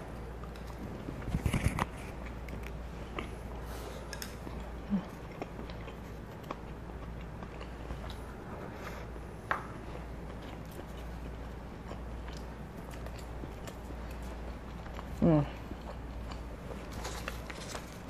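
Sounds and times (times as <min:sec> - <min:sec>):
person chewing food: 0:00.1 - 0:18.0.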